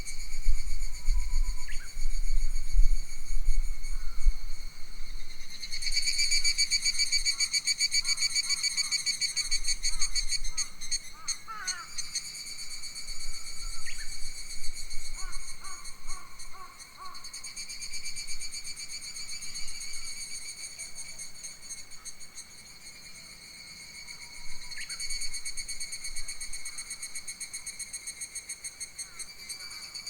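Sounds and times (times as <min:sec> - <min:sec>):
pulsing insect chorus: 0:00.0 - 0:30.0.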